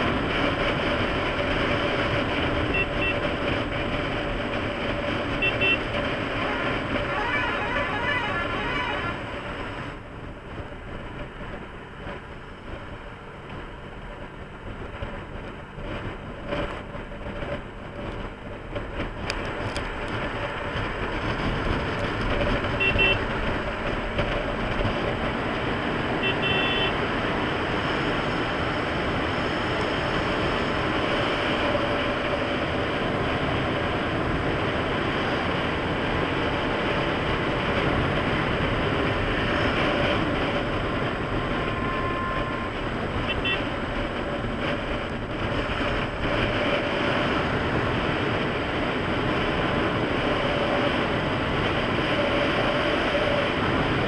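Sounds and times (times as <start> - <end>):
wind rush: 0.0 - 26.2, 26.9 - 54.0
motorcycle engine running: 0.0 - 54.0.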